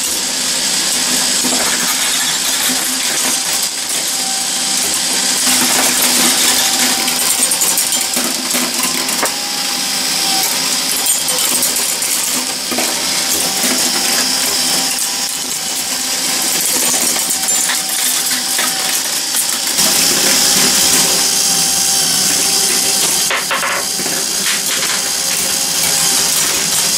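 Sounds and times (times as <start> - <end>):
marbles clattering on metal tracks: 0.9 - 9.5, 10.2 - 21.2, 22.5 - 26.9.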